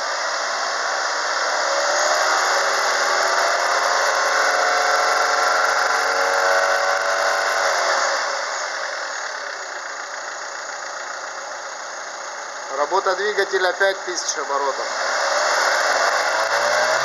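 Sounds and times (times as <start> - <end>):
car engine running at high revs: 0.0 - 17.0.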